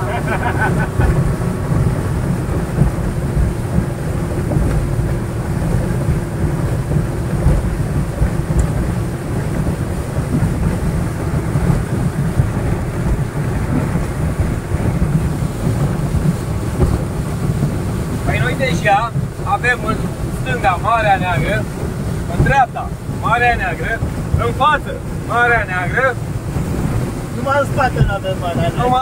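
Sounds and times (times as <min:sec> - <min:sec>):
boat engine drone: 0:00.0 - 0:29.0
wind buffeting microphone: 0:00.0 - 0:29.0.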